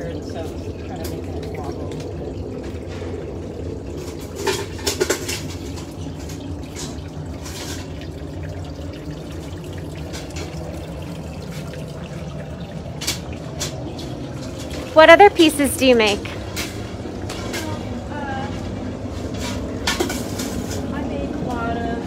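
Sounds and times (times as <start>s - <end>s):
furnace rushing hum: 0.0s - 22.0s.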